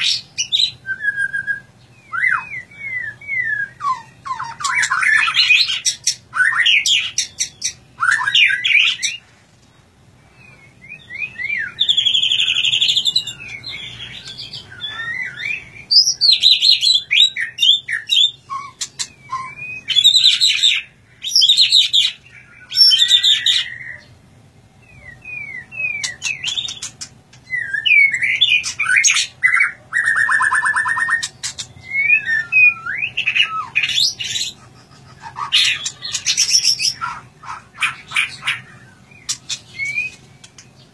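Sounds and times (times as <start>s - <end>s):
bird singing whistled notes and trills: 0.0s - 9.2s, 10.2s - 40.9s.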